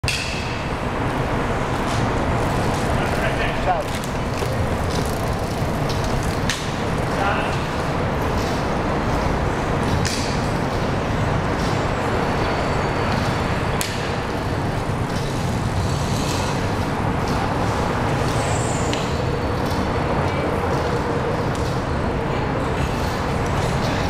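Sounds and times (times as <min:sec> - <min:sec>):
highway traffic roar: 0:00.0 - 0:24.0.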